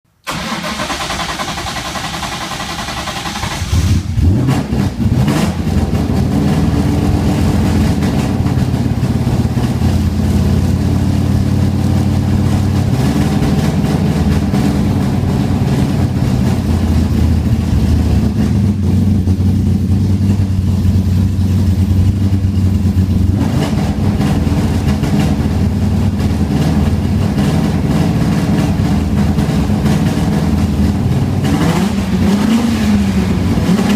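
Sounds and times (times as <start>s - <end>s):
engine humming: 5.0s - 33.9s.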